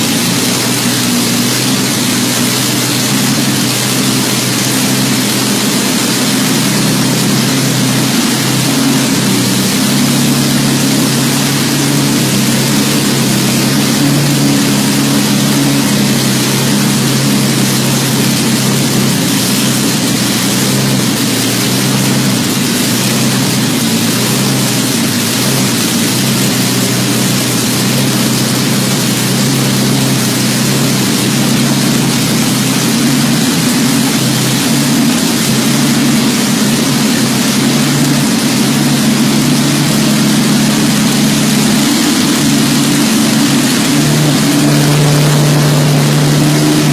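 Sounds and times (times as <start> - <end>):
engine rumbling steadily: 0.0 - 46.9.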